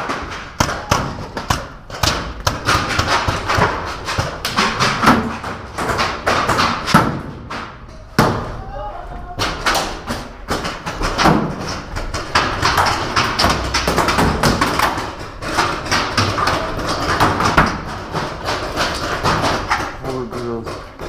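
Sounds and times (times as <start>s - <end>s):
paintballs smacking a tower: 0.0s - 21.0s.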